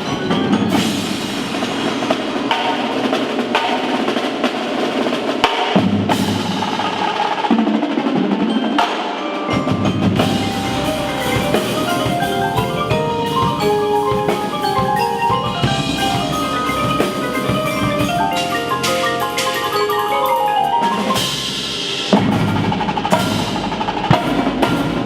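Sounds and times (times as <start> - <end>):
drums striking: 0.0 - 25.0
mallet keyboards playing fast runs: 0.0 - 25.0.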